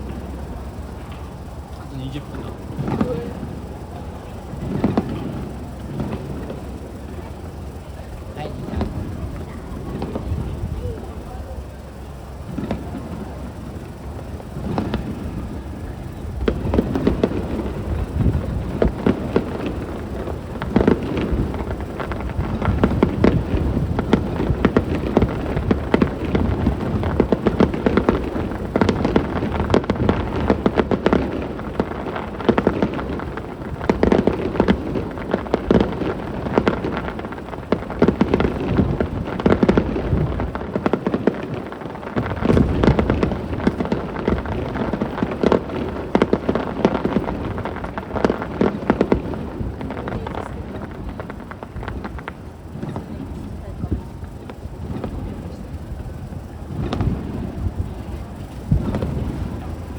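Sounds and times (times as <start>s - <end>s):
aerial fireworks barrage: 0.0s - 59.9s.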